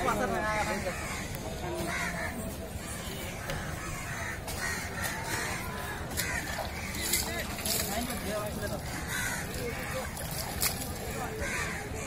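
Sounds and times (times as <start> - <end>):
crows cawing: 0.3 - 12.0.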